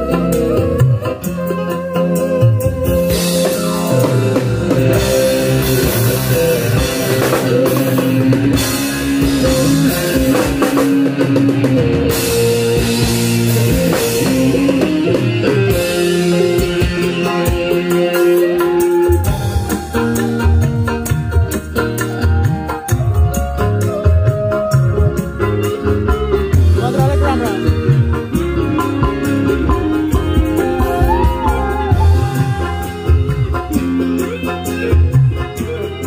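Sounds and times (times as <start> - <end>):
instrumental band music over pa: 0.0 - 36.0.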